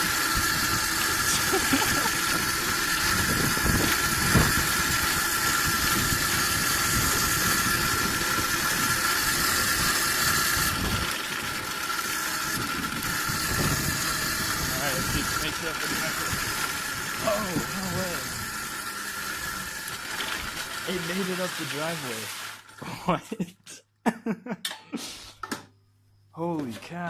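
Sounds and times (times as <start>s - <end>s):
electric motor whine: 0.0s - 22.8s.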